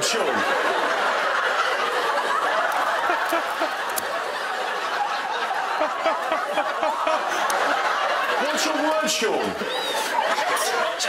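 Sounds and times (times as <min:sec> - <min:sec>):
audience laughing: 0:00.0 - 0:11.0.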